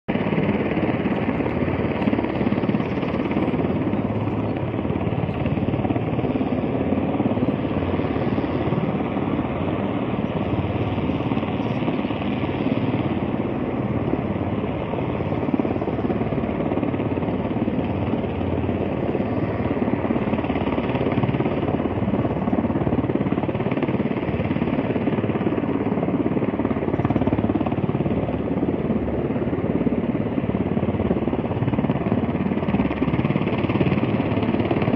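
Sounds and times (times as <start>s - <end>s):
helicopter rotor chopping: 0.1s - 34.9s.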